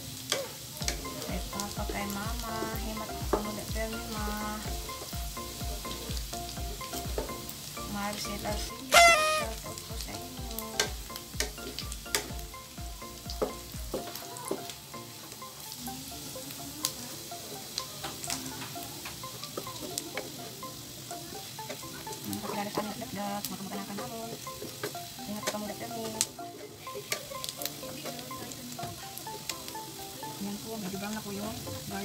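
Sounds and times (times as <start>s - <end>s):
meat sizzling in a wok: 0.0s - 32.0s.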